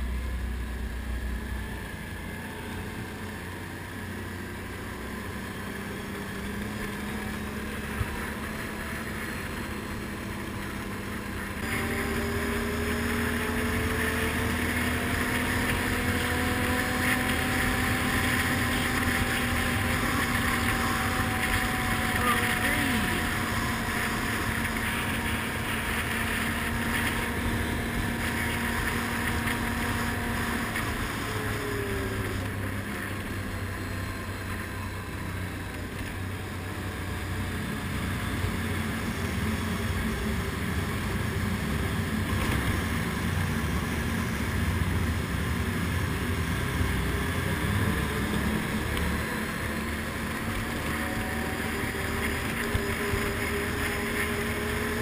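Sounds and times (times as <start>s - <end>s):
quad engine running: 0.0s - 55.0s.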